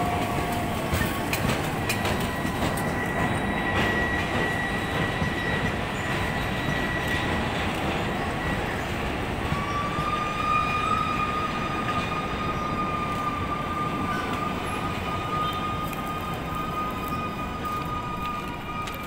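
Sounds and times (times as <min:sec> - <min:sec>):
moving train rumble: 0:00.0 - 0:19.0
train whistle: 0:00.0 - 0:19.0.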